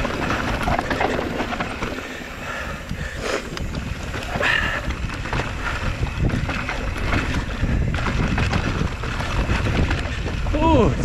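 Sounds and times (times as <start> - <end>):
bike clicks and rattles: 0.0 - 11.0
wind buffeting microphone: 0.0 - 11.0.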